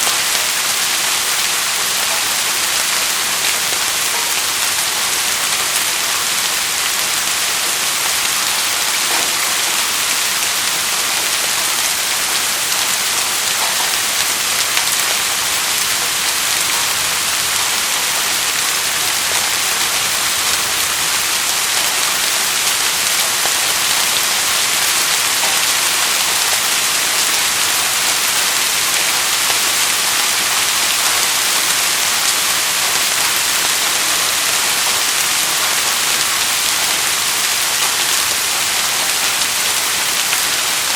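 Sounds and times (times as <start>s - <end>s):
rain hissing on surfaces: 0.0s - 40.9s
raindrop ticks: 0.1s - 40.9s.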